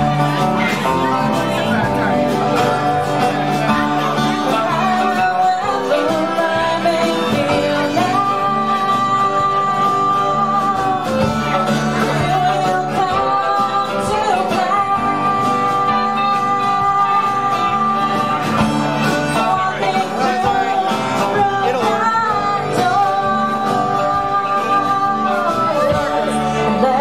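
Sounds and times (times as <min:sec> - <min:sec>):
electric guitar: 0:00.0 - 0:27.0
live band playing: 0:00.0 - 0:27.0
woman singing: 0:04.0 - 0:27.0.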